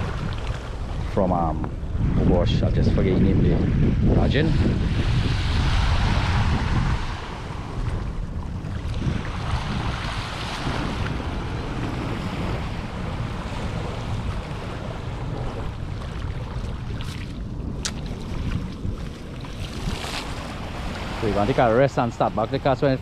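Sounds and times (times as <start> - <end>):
wind buffeting microphone: 0.0 - 23.0
small waves washing onto shore: 3.7 - 23.0.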